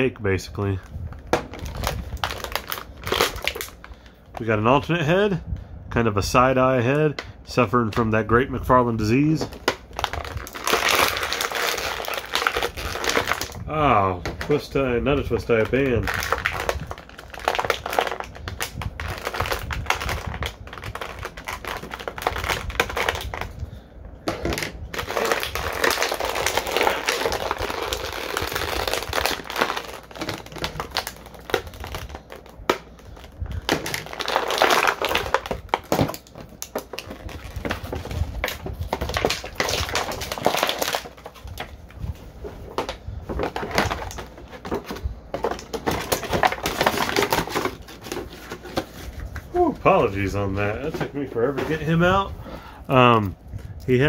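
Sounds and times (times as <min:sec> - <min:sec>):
plastic packaging rustling: 0:00.6 - 0:05.0, 0:08.1 - 0:54.0.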